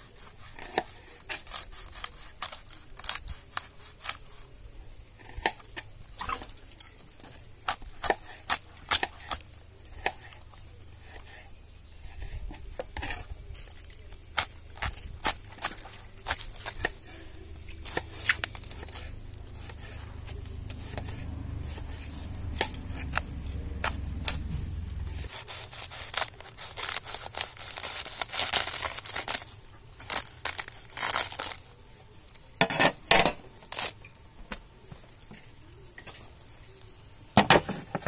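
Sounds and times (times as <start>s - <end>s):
knife crunching through cabbage: 0.0s - 4.6s, 5.2s - 11.4s, 12.0s - 32.4s, 33.6s - 34.0s
low steady hum: 4.2s - 38.0s.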